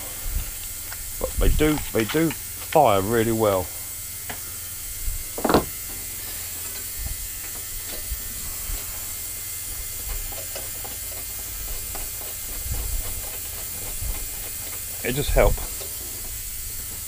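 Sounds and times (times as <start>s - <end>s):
parts cleaner hum and hiss: 0.0s - 17.0s.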